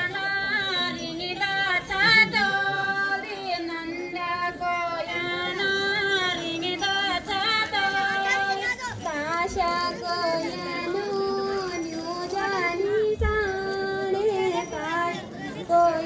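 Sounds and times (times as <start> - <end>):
women singing folk song: 0.0 - 16.0.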